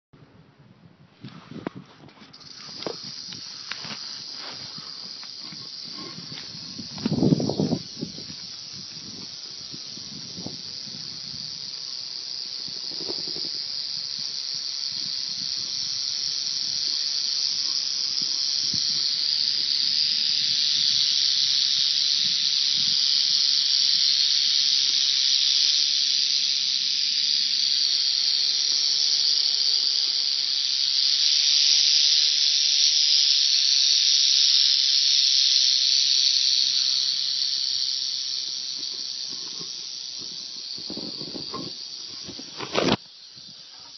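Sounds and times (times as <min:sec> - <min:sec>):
rattlesnake rattle buzzing: 0:01.2 - 0:43.9.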